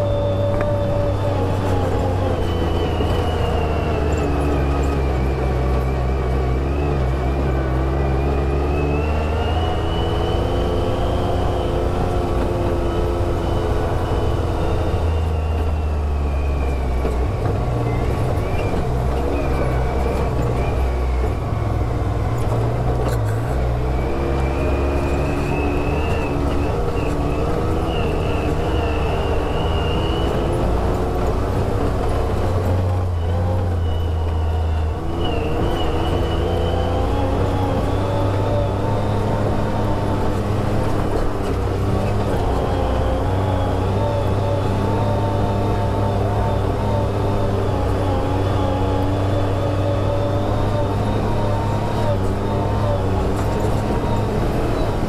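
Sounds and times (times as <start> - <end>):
utility vehicle engine running: 0.0 - 55.0.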